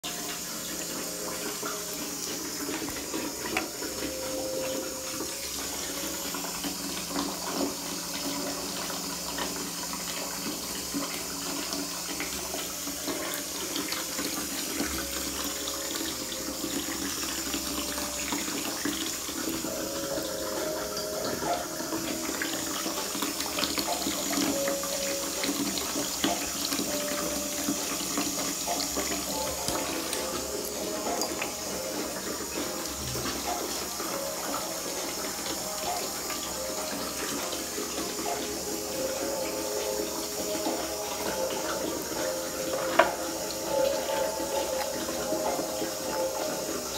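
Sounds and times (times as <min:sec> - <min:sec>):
tap water running into basin: 0:00.0 - 0:46.9.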